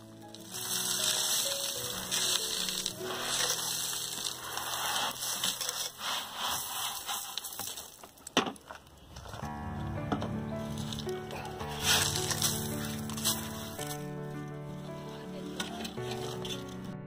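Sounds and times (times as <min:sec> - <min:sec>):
sand pouring: 0:00.0 - 0:09.5, 0:10.5 - 0:17.0.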